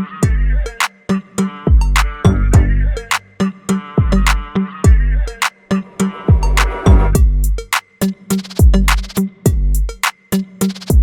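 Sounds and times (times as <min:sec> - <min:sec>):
electronic hip hop beat: 0:00.2 - 0:11.0.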